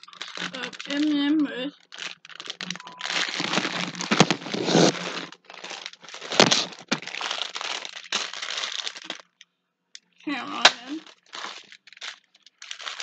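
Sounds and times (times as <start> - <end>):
plastic packaging crinkling: 0.0 - 9.4, 10.6 - 13.0.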